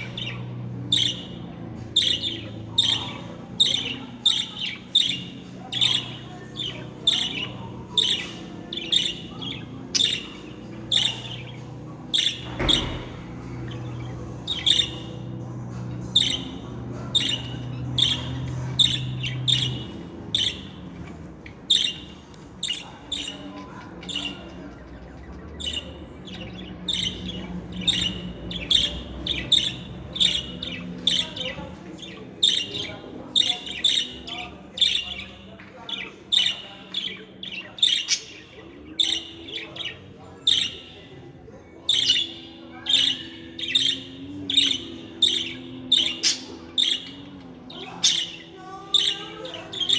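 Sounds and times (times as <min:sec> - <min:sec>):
budgerigars chirping and squawking: 0:00.0 - 0:49.9.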